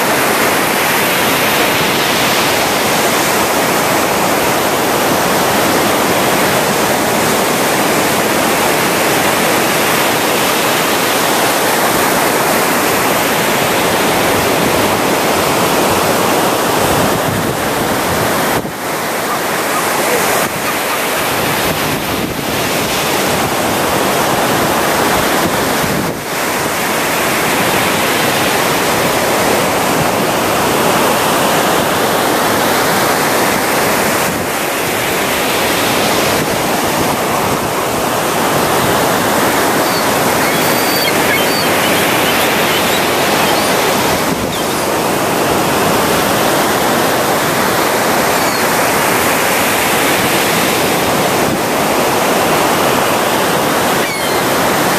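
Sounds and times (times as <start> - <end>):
waves breaking on beach: 0.0 - 54.9.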